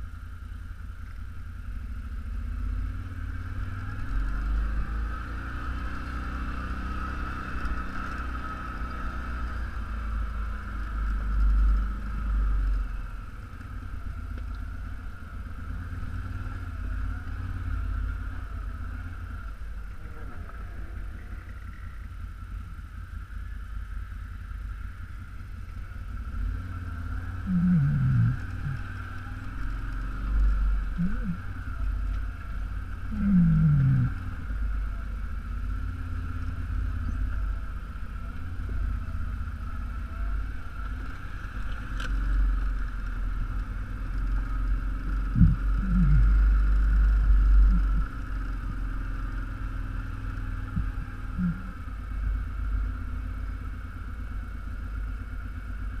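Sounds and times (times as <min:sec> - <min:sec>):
atv engine rumbling: 0:00.0 - 0:56.0.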